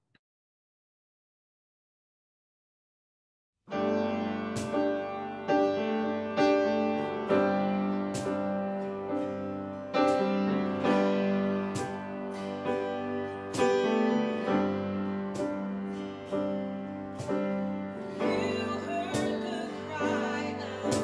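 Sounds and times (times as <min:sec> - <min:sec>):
piano guitar and cello music: 0:03.7 - 0:21.0.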